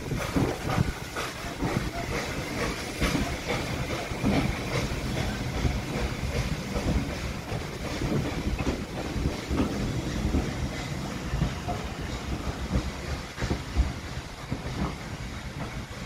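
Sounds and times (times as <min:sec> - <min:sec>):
low train rumble: 0:00.0 - 0:16.0
train wheels knocking on rail joints: 0:00.0 - 0:16.0.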